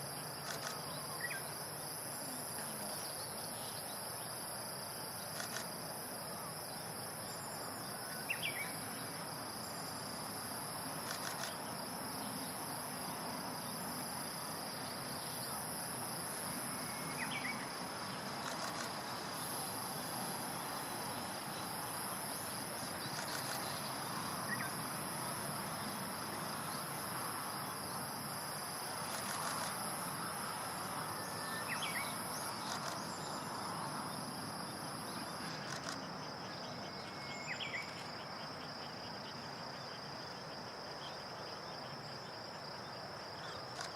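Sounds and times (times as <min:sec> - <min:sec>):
background hiss: 0:00.0 - 0:43.9.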